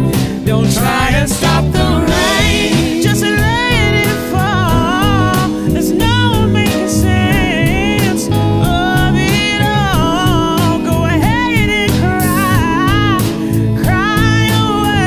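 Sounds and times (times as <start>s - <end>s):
soul-blues song: 0.0s - 15.0s.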